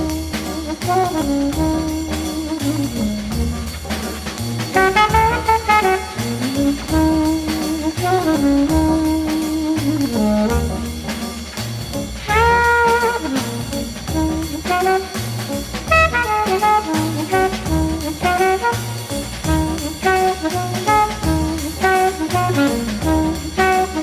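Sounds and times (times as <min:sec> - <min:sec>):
jazz music with brass: 0:00.0 - 0:24.0.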